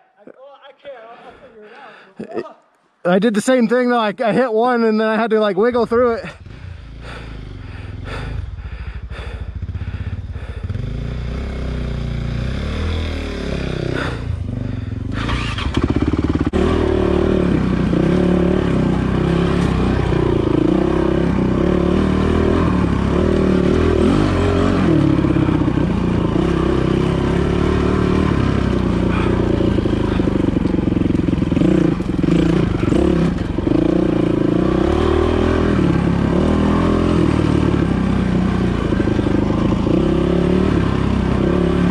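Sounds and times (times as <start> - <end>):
dirt bike engine revving: 5.6 - 41.9.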